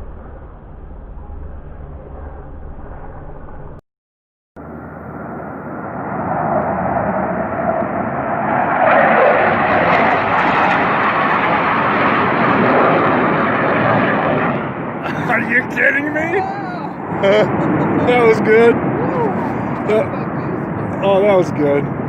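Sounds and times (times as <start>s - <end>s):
aircraft flying low overhead: 0.0s - 3.8s, 4.6s - 22.0s.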